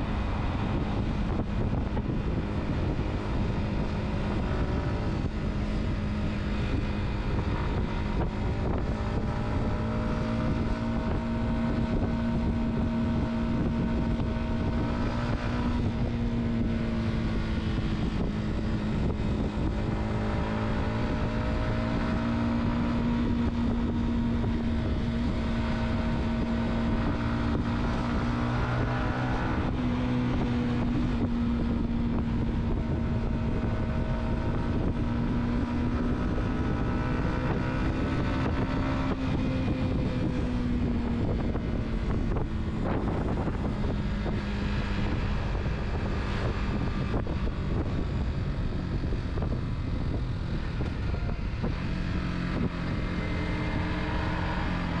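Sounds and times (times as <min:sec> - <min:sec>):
car engine hum: 0:00.0 - 0:55.0
road rumble: 0:00.0 - 0:55.0
wind on microphone: 0:00.0 - 0:55.0.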